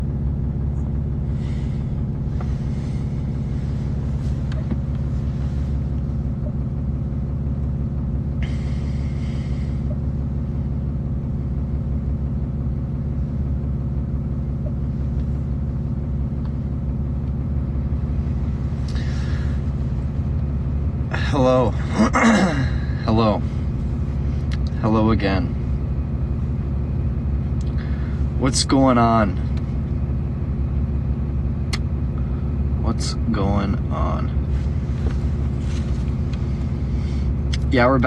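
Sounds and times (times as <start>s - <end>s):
truck engine idling: 0.0s - 38.0s.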